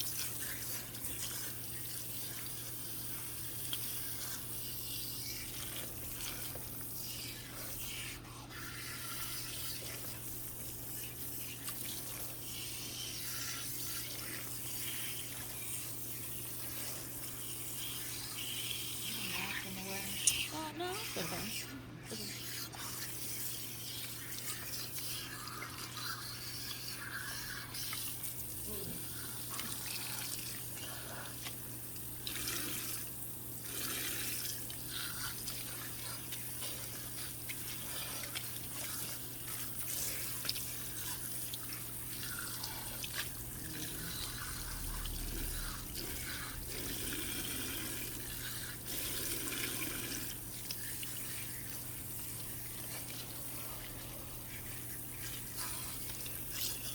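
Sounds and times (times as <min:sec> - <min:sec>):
running tap water: 0:00.0 - 0:56.9.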